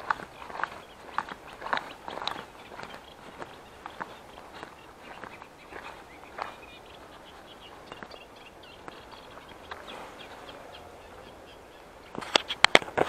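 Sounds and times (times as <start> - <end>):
birds chirping and singing: 0.0 - 12.8
grass rustling: 0.0 - 13.0
walking through tall grass: 0.0 - 13.0.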